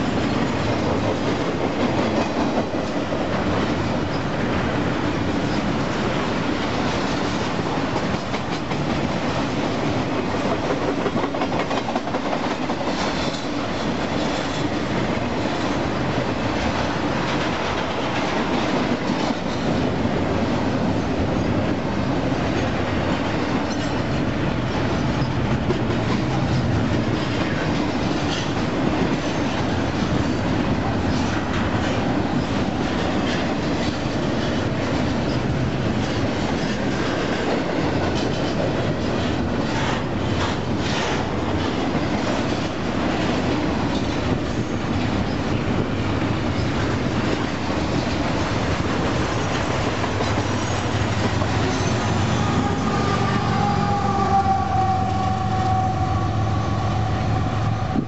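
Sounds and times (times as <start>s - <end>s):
clickety-clack of wheels: 0.0s - 52.6s
freight train wheels rumbling: 0.0s - 58.0s.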